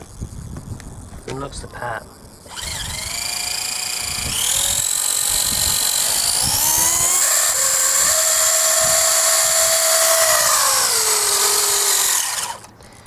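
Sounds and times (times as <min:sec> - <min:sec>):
electric motor high-pitched whine: 0:02.0 - 0:12.8.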